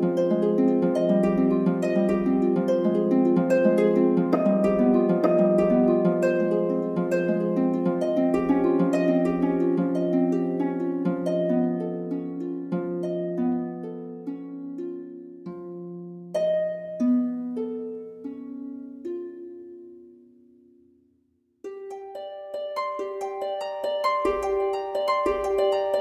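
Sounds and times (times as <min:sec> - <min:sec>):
gentle instrumental music: 0:00.0 - 0:26.0.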